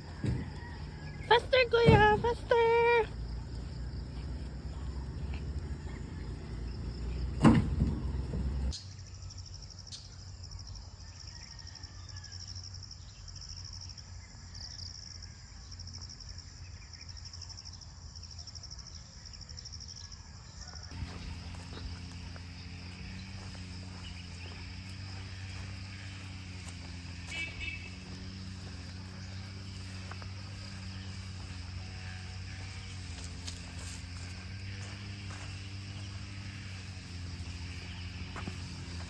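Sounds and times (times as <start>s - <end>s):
insects trilling: 0.0s - 39.0s.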